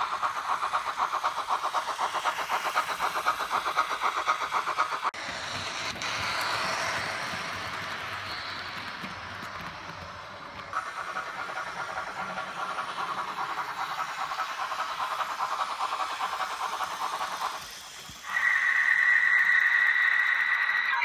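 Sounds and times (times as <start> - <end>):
model steam locomotive chuffing: 0.0 - 21.0.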